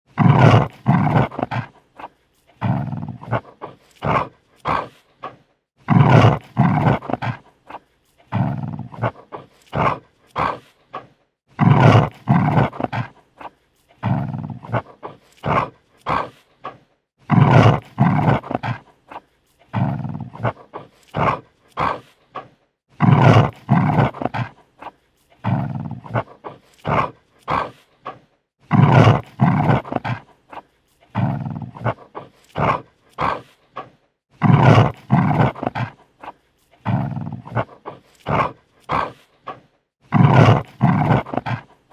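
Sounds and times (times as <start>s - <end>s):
dog snarling: 0.1s - 41.9s.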